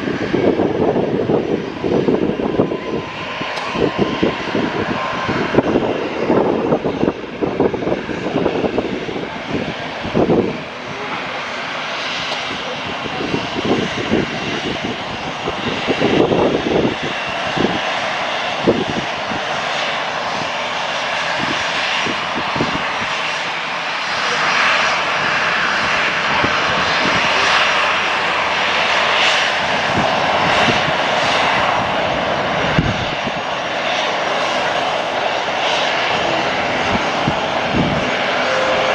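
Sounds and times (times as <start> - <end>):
airliner engines rushing: 0.0 - 38.9.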